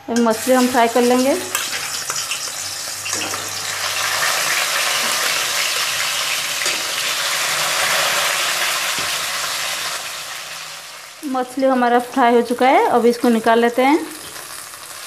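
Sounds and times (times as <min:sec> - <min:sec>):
fish sizzling in hot oil: 0:00.3 - 0:15.0.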